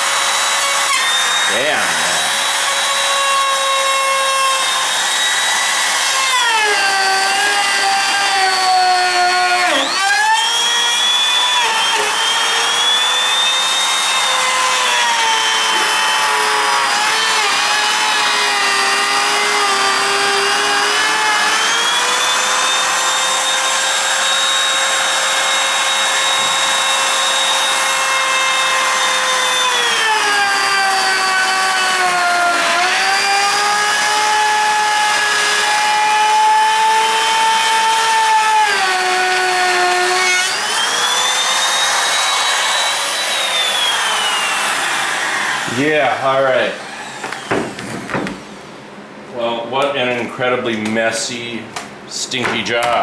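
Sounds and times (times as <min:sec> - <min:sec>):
power tool motor whine: 0:00.0 - 0:45.7, 0:46.8 - 0:48.5.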